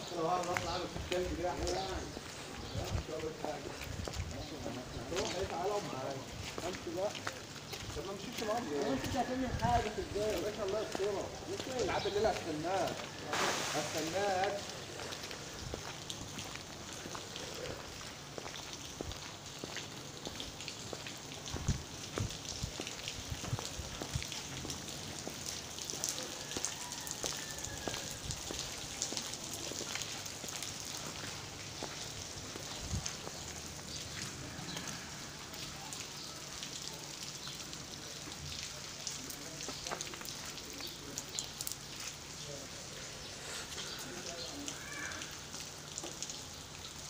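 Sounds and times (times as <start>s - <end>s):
raindrop ticks: 0.0s - 42.4s, 43.7s - 47.0s
rain hissing on wet street: 0.0s - 47.0s.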